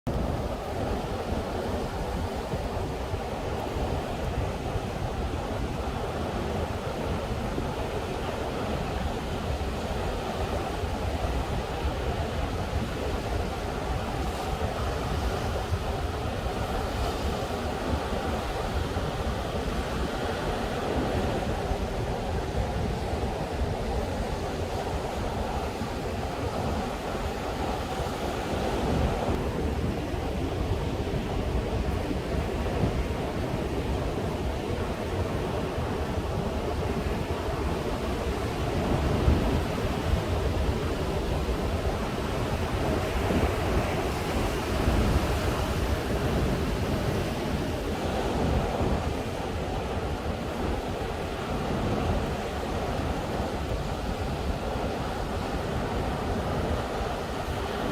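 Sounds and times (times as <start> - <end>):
surf breaking on a beach: 0.1 - 57.9
wind buffeting microphone: 0.1 - 57.9.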